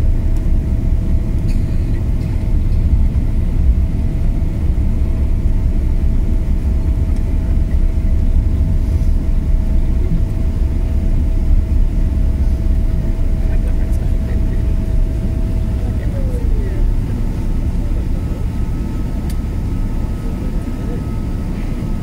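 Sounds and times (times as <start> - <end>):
jet airliner rumbling on ground: 0.0 - 22.0.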